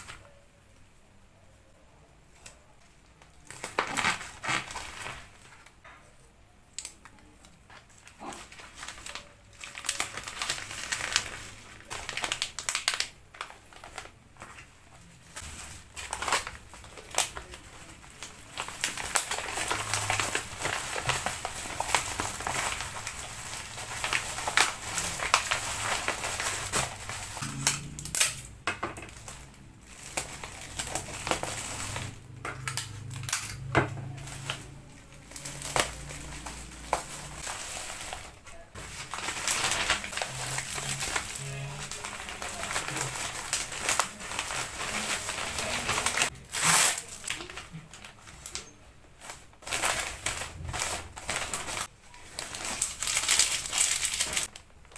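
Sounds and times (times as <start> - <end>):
bubble wrap crinkling and crackling: 0.0 - 54.9.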